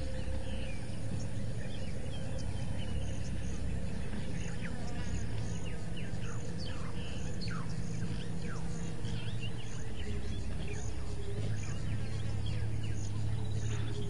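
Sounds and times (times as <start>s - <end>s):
birds chirping: 0.0s - 14.0s
insects pulsing: 0.0s - 14.0s
low steady hum: 0.0s - 14.0s.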